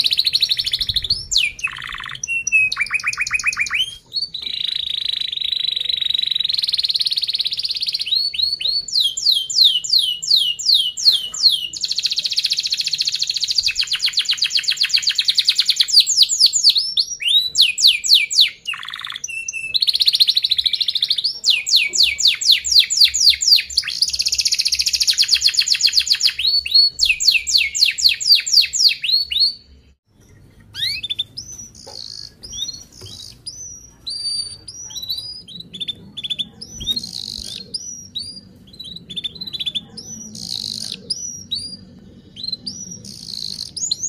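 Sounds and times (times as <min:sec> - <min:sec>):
canary singing: 0:00.0 - 0:44.0.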